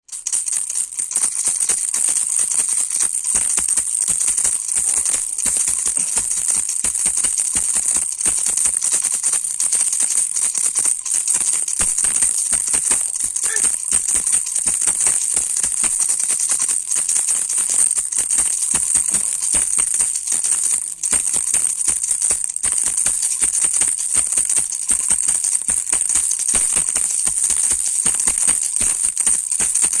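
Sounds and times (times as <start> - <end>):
baby rattle shaken: 0.0 - 30.0.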